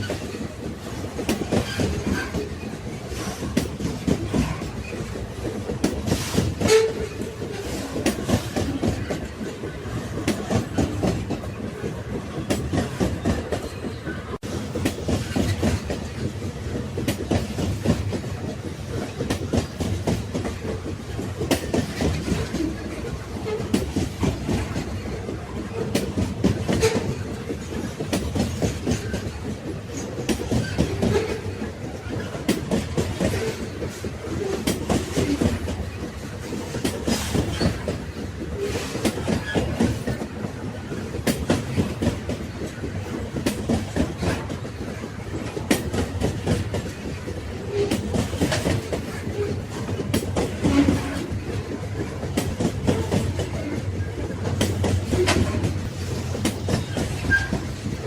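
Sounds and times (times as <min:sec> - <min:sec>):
railway wagons rumbling: 0:00.0 - 0:58.0
wheels clacking over rail joints: 0:00.0 - 0:58.0.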